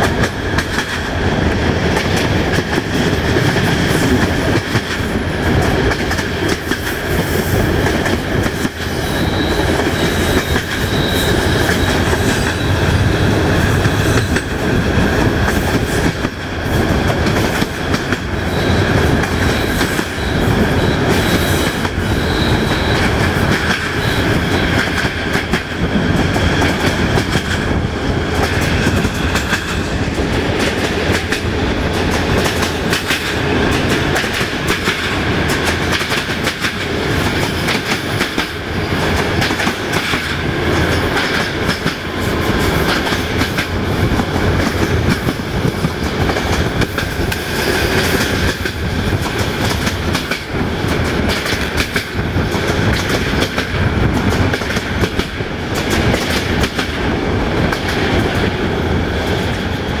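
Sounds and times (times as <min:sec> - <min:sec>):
train wheels clattering over rail joints: 0:00.0 - 0:59.9
train rolling rumble: 0:00.0 - 1:00.0.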